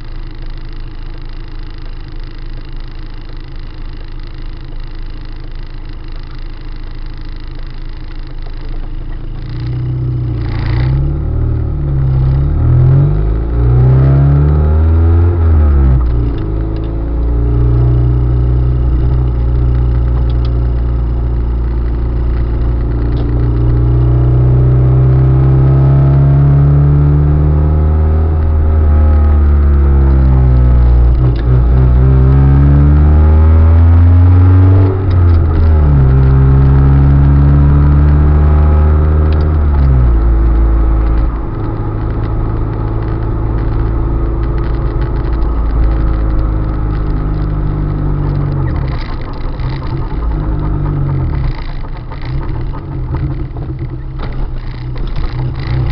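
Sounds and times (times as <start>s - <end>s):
car engine revving while driving: 8.5s - 55.9s.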